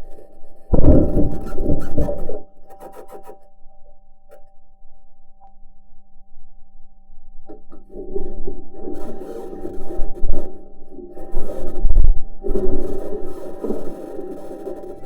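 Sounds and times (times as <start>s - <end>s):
steady multi-tone hum: 0.0s - 15.0s.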